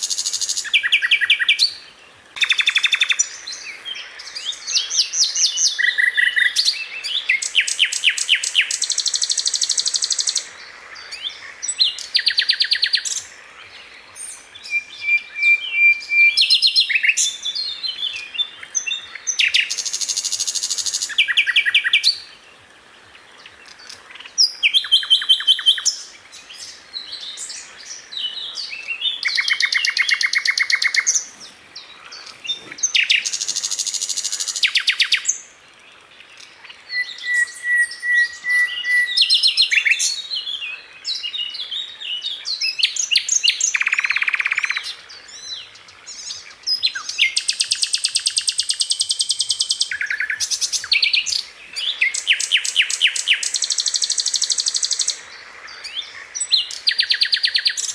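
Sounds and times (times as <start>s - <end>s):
bird singing trilled phrases: 0.0s - 22.4s, 23.4s - 35.5s, 36.2s - 57.9s.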